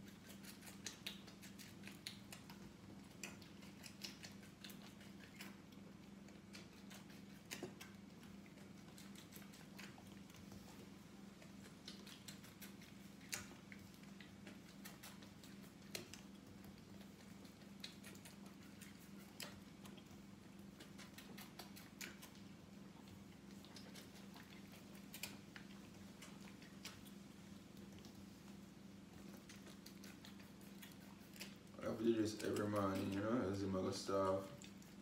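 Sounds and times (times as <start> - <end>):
wet suckling clicks and smacks: 0.0 - 35.0.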